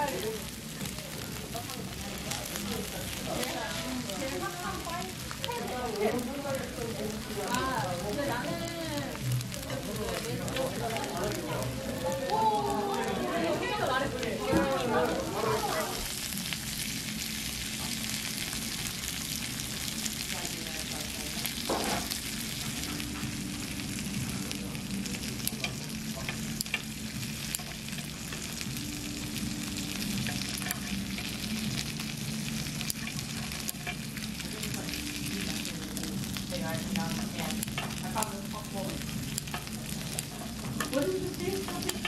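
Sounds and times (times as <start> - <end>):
food sizzling on a griddle: 0.0 - 42.0.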